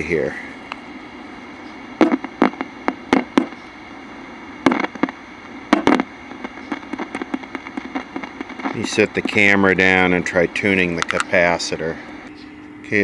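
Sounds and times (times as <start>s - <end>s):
crackling and popping from speaker: 0.0s - 12.9s
steady hum: 0.0s - 13.0s.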